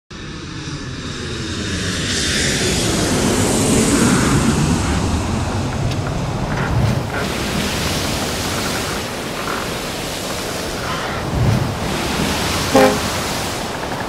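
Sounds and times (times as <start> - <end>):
jet airliner roar: 0.5 - 14.0.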